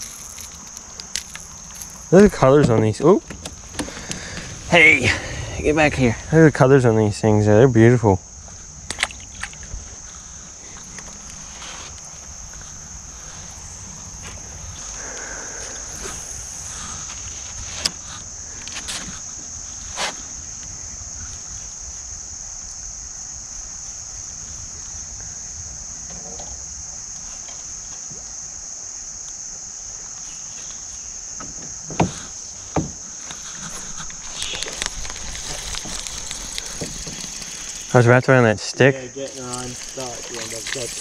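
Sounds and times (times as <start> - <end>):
insects chorus: 0.0 - 41.0.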